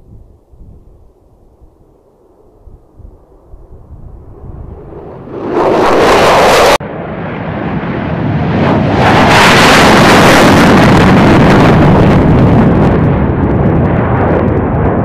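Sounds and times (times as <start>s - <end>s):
jet engine roar: 1.9s - 15.0s.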